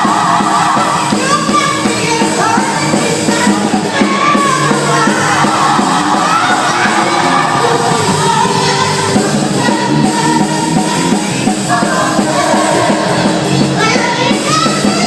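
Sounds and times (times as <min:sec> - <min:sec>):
band with steady beat: 0:00.0 - 0:15.0
person singing gospel: 0:00.0 - 0:15.0.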